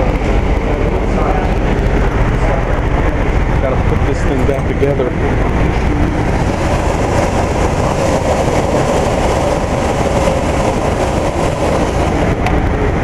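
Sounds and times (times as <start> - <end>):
heat pump fan running: 0.0 - 13.0.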